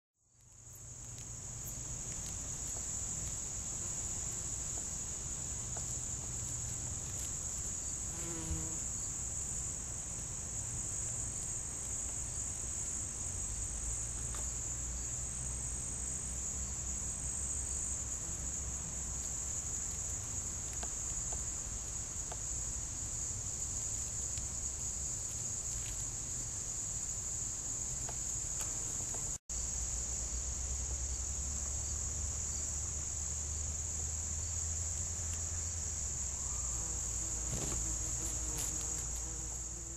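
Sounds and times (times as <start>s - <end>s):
high-pitched insect chorus: 0.3s - 39.9s.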